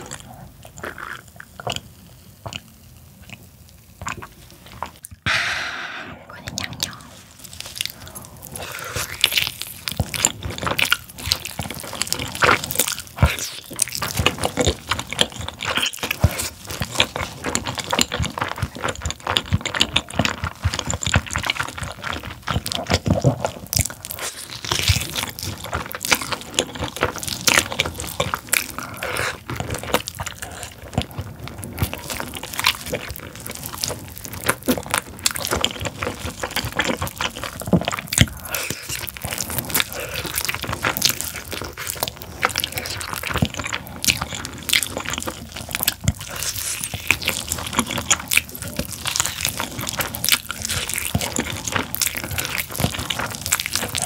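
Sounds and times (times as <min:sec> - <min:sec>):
chewing with mouth clicks: 0:07.4 - 0:54.0.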